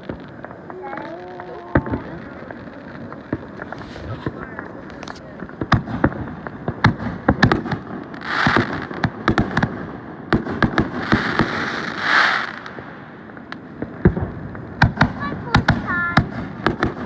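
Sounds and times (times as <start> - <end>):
fireworks hissing: 0.0 - 9.0, 10.7 - 16.7
fireworks bangs and pops: 0.0 - 17.0.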